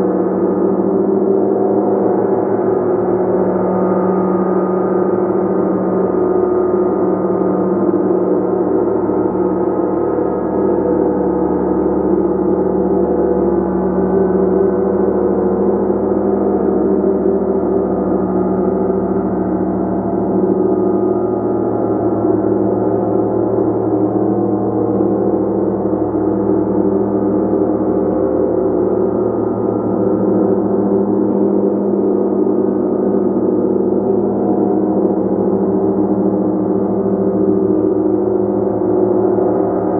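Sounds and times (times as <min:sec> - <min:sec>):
gong sustained wash: 0:00.0 - 0:39.9.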